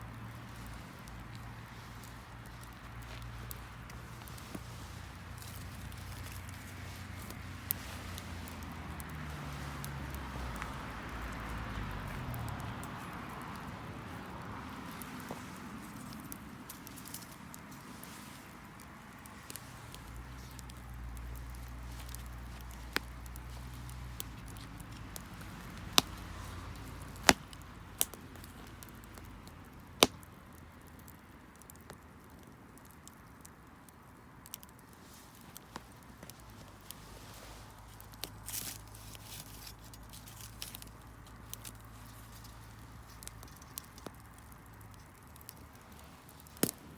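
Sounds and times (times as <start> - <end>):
bonfire crackling and popping: 0.0 - 46.9.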